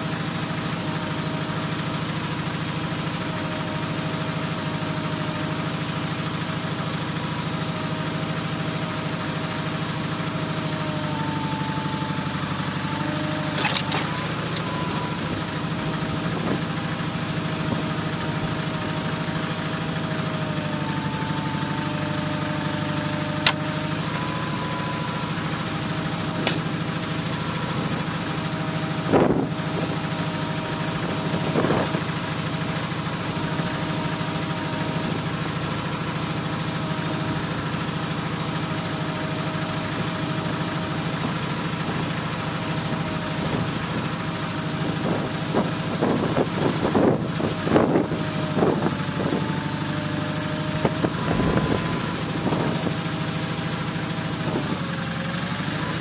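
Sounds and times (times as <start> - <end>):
hydraulic whine changing pitch: 0.0 - 56.0
tractor engine idling: 0.0 - 56.0.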